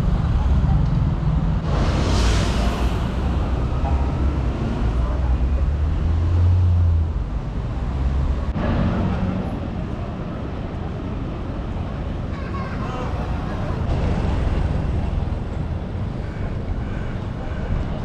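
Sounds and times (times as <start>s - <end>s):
hiss of passing traffic: 0.0s - 18.0s
vehicle engine rumbling: 0.0s - 18.0s.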